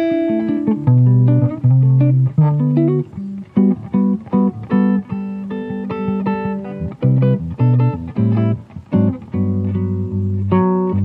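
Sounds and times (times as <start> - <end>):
fingerstyle acoustic guitar: 0.0 - 11.0.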